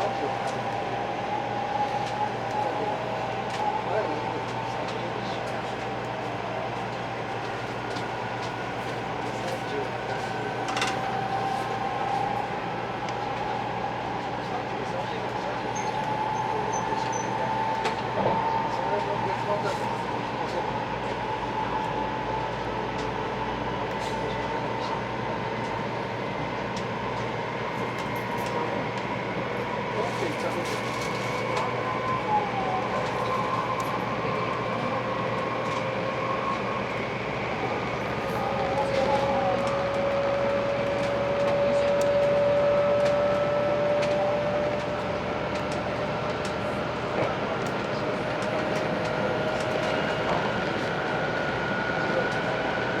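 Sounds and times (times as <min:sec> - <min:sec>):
high-speed train cabin rush: 0:00.0 - 0:53.0.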